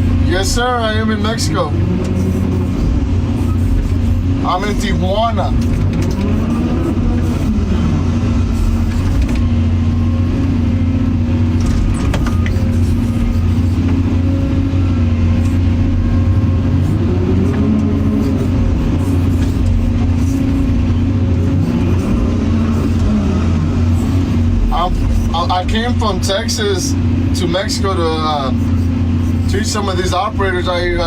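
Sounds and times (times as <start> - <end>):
excavator diesel engine under load: 0.0 - 31.0
hydraulics working: 0.0 - 31.0.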